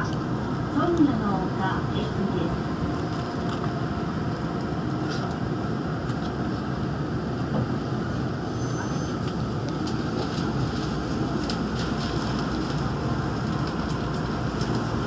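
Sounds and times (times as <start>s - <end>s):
monorail train running noise: 0.0s - 15.0s.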